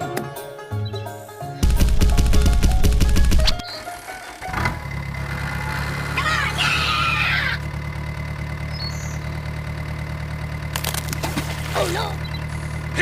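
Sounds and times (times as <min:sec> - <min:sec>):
engine idling: 0:01.6 - 0:13.0.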